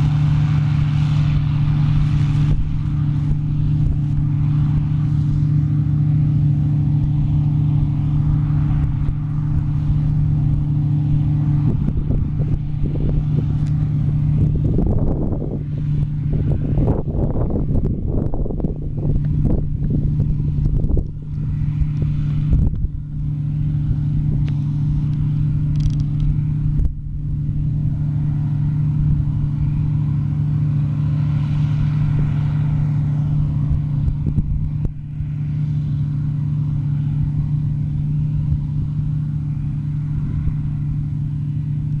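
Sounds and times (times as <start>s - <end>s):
combine harvester running: 0.0s - 42.0s
wind buffeting microphone: 0.0s - 42.0s.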